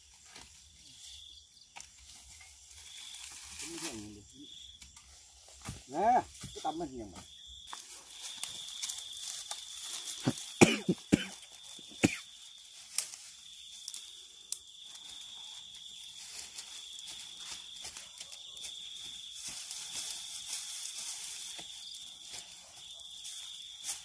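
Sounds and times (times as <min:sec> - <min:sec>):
high insect trill: 0:00.0 - 0:24.0
rustles: 0:00.0 - 0:24.0.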